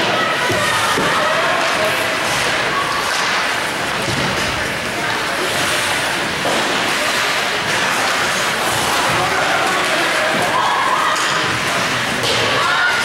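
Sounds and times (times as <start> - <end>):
arena noise: 0.0 - 13.0
indistinct voices: 0.0 - 13.0.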